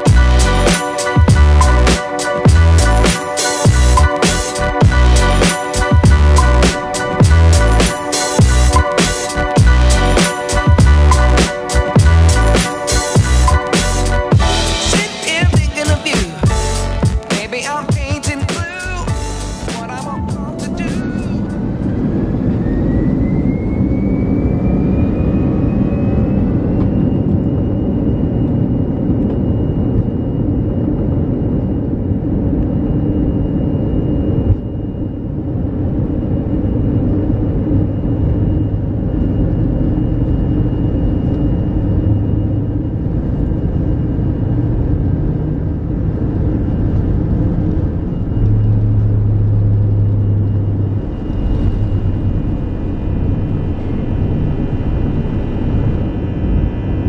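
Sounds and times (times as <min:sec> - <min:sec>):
deep hum: 0:00.0 - 0:57.0
heavy rumble: 0:00.0 - 0:57.0
jet engine whine: 0:00.0 - 0:57.0.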